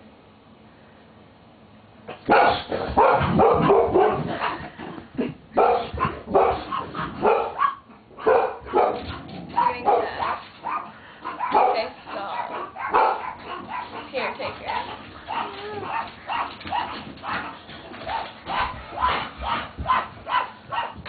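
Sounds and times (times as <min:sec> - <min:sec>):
dog barking: 0:02.1 - 0:04.6, 0:05.6 - 0:21.0.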